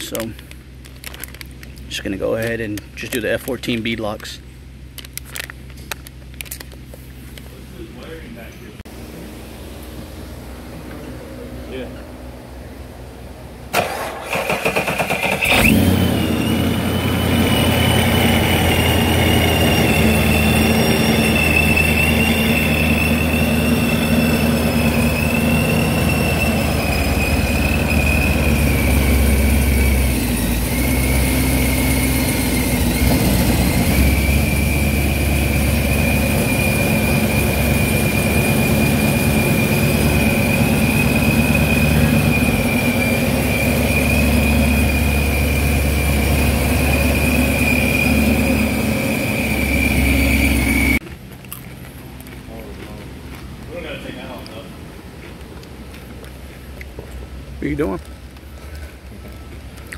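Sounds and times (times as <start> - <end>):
car engine cranking and idling: 0.0 - 59.9
supercharger whine: 0.0 - 59.9.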